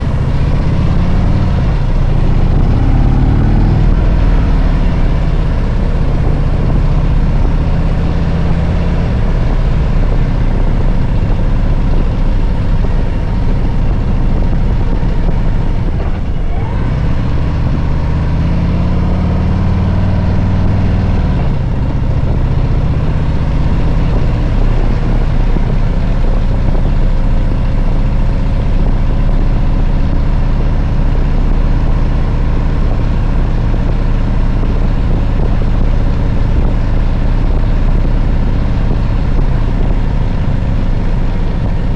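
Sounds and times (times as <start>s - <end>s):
motorcycle engine riding: 0.0s - 41.9s.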